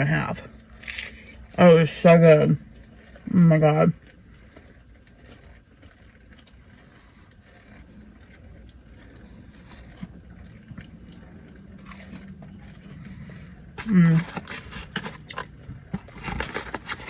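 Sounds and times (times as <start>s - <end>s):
low steady rumble: 0.0s - 17.0s
soft chewing: 2.5s - 17.0s.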